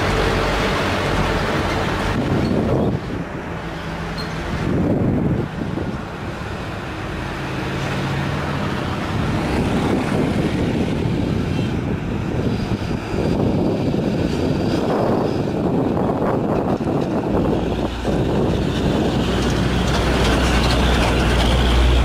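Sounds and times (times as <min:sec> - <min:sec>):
diesel truck engines climbing: 0:00.0 - 0:22.0.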